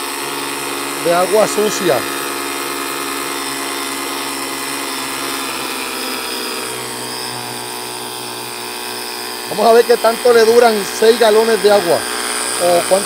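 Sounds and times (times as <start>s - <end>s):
pressure washer motor humming: 0.0s - 13.0s.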